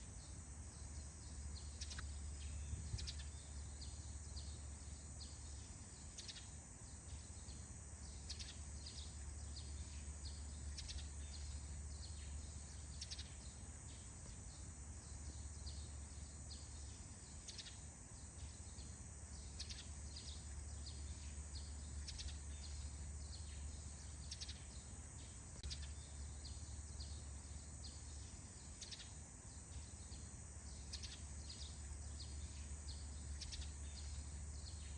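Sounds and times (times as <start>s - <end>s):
steady high hiss: 0.0s - 34.9s
birds chirping: 0.1s - 34.9s.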